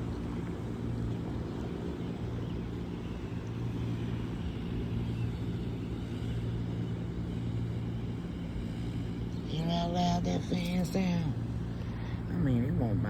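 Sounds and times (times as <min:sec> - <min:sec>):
large fan droning: 0:00.0 - 0:13.0.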